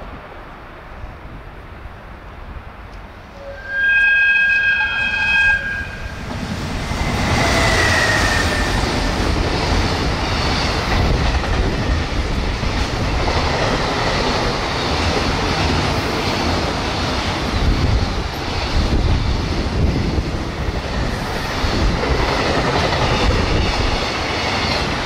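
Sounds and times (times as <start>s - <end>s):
freight train passing: 0.0s - 25.0s.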